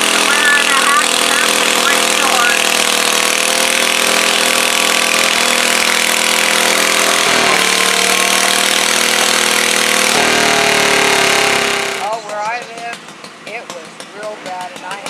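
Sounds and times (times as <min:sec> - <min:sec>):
tractor engine at high revs: 0:00.0 - 0:15.0.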